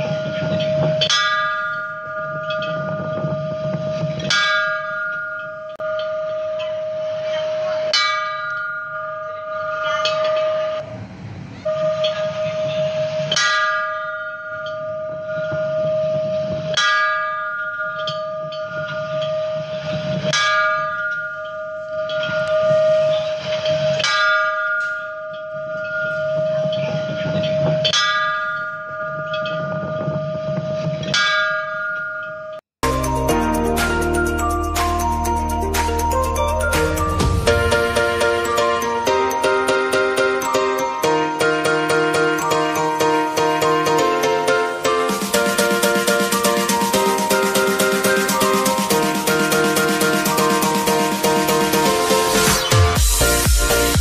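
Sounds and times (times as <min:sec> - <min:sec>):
temple bell ringing: 0:00.0 - 0:11.0, 0:11.6 - 0:54.0.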